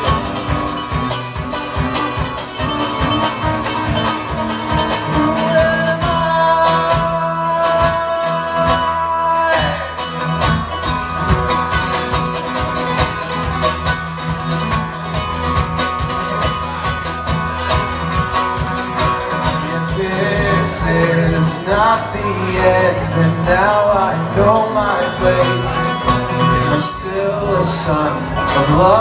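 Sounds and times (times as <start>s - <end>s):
bluegrass band music: 0.0s - 29.0s.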